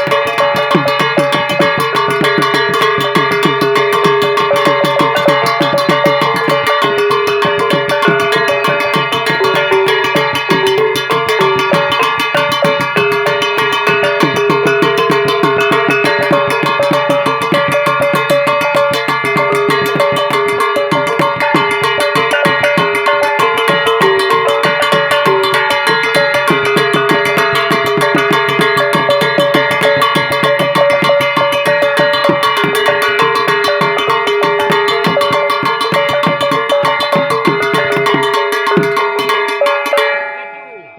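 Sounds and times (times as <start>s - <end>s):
music with fast drum beat: 0.0s - 40.3s.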